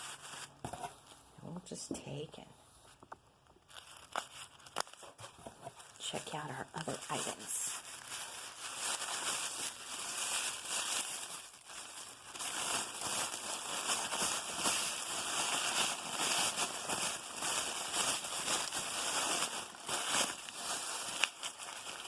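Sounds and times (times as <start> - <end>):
wrapping paper crinkling: 0.0 - 1.2, 3.6 - 22.0.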